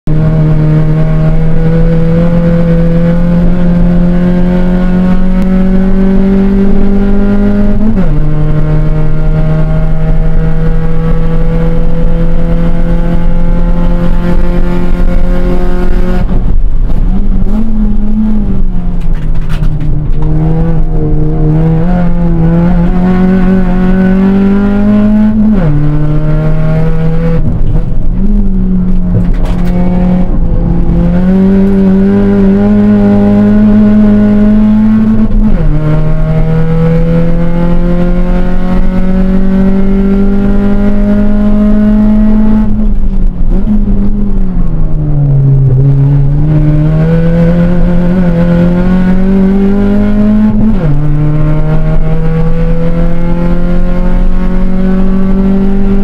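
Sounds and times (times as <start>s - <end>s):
car engine revving hard: 0.1s - 56.0s.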